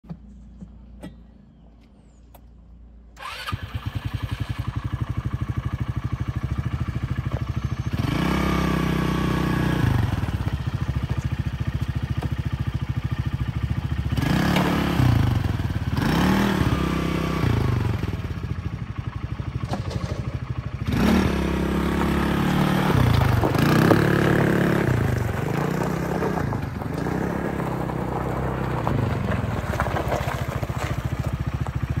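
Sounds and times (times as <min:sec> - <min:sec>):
small engine revving: 0:03.2 - 0:18.9, 0:19.6 - 0:32.0
vehicle driving on gravel: 0:04.0 - 0:32.0.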